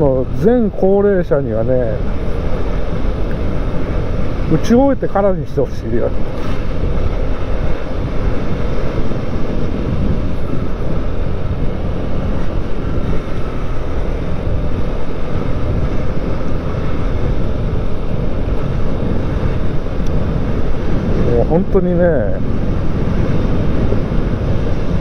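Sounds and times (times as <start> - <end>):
scooter engine and road rumble: 0.0 - 25.0
wind on microphone: 0.0 - 25.0.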